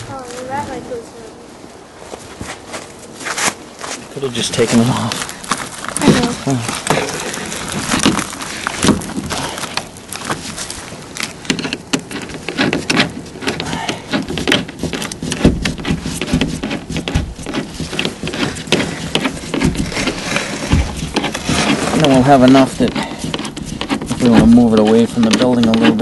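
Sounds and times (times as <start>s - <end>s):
air duct crackling and rustling: 0.0s - 26.0s.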